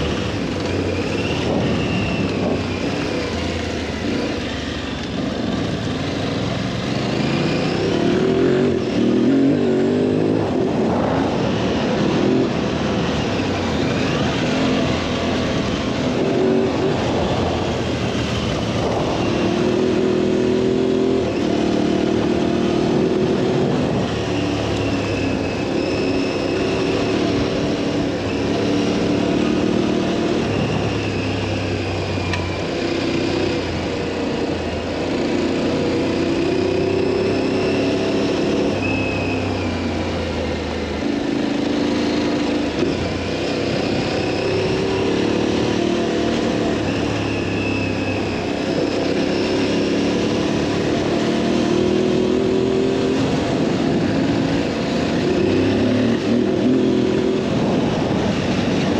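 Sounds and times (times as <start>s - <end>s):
motorcycle engine revving: 0.0s - 58.9s
wind and riding noise: 0.0s - 58.9s.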